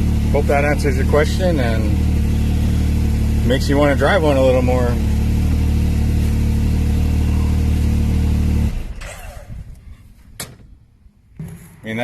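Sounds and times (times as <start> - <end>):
engine running: 0.0 - 10.2.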